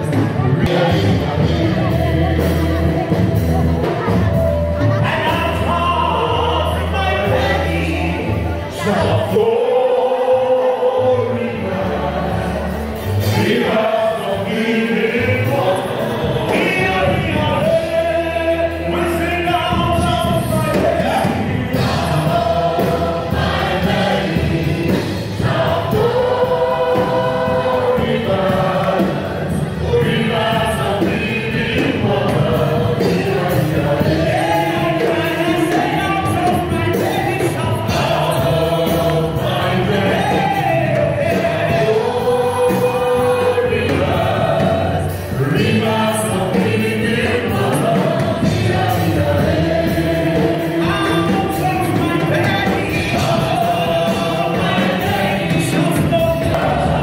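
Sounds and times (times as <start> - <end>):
congregation singing: 0.0 - 57.0.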